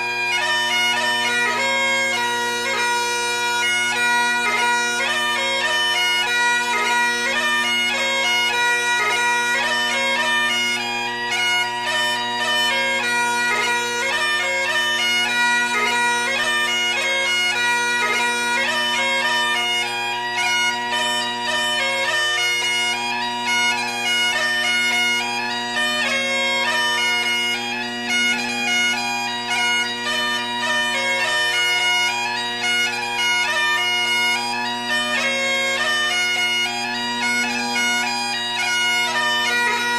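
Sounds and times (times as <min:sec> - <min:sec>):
bagpipe music: 0:00.0 - 0:39.9.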